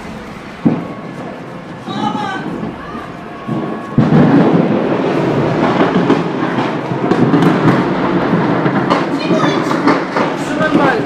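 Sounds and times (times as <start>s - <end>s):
crackling roar: 0.0s - 11.0s
loud explosion blast: 0.0s - 11.0s.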